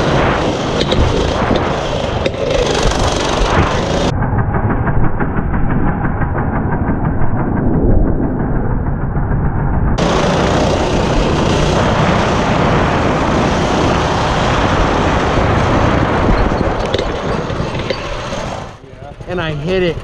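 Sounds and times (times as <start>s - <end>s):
minibike engine under throttle: 0.0s - 7.5s, 10.0s - 20.0s
wind rush on camera: 0.0s - 18.8s.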